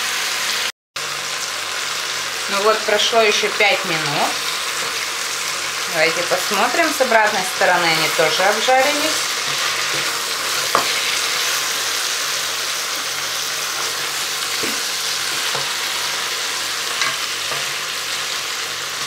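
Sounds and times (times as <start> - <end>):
meat sizzling in hot fat: 0.0 - 19.0.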